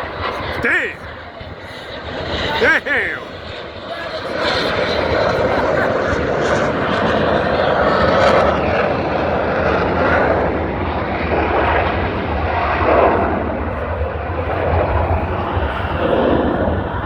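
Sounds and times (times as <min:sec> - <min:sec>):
airplane engine: 0:00.0 - 0:02.6, 0:03.2 - 0:17.0.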